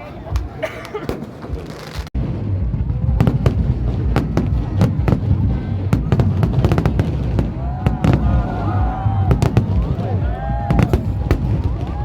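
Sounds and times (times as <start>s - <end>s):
low rumble: 2.2s - 12.0s.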